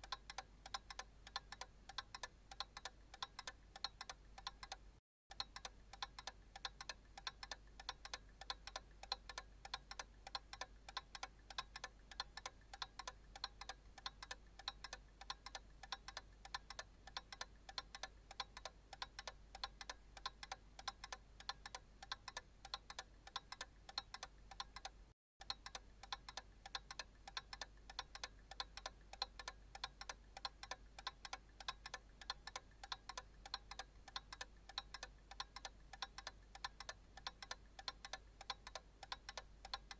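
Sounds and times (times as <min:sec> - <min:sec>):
analog clock ticking: 0:00.0 - 0:39.9.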